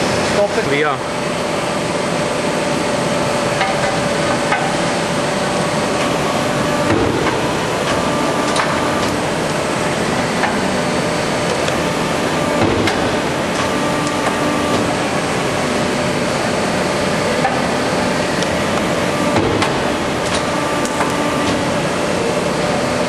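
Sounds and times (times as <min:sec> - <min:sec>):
punching machine running: 0:00.0 - 0:23.0.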